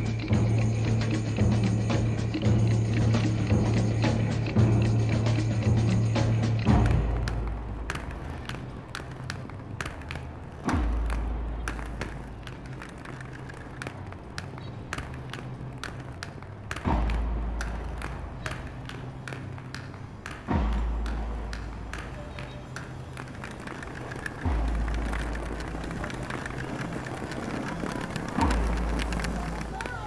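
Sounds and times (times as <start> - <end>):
wheels rolling over tiled floor: 0.0 - 30.0.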